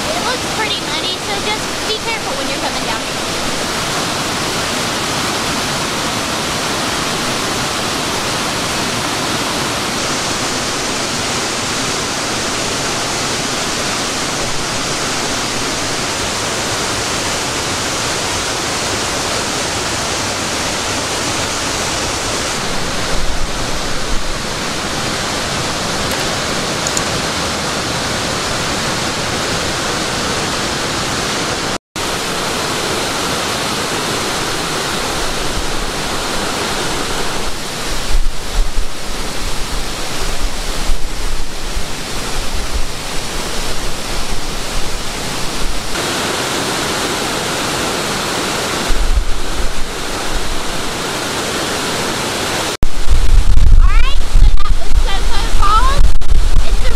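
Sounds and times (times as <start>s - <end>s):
waterfall rushing over rock: 0.0s - 56.9s.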